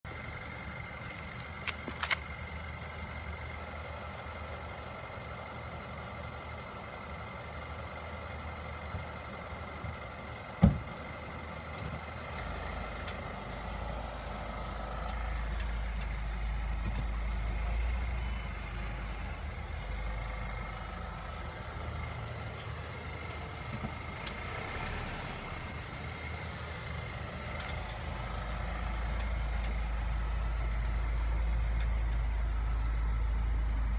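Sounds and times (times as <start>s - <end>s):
low rumble of running vehicle: 0.0s - 33.9s.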